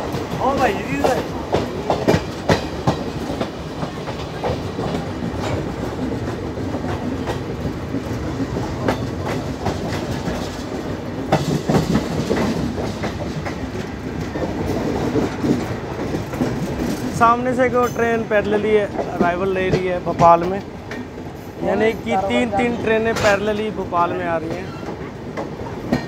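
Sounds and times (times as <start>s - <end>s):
train rumbling on rails: 0.0s - 26.0s
wheels clacking over rail joints: 0.0s - 26.0s.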